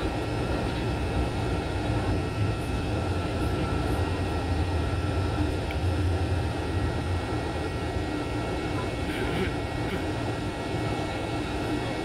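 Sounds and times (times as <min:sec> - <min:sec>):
faint whining tones: 0:00.0 - 0:12.0
jet engine and airflow rumble: 0:00.0 - 0:12.0.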